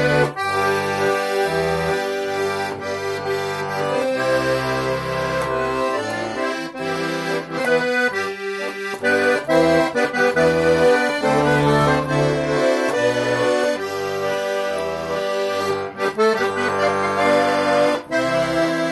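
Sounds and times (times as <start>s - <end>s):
accordion bass and chords: 0.0s - 18.9s
accordion melody: 0.0s - 18.9s.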